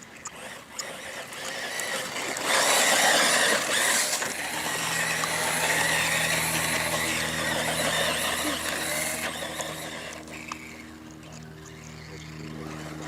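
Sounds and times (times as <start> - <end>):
steady low hum: 0.0 - 13.0
toy car motor whining: 0.0 - 13.0.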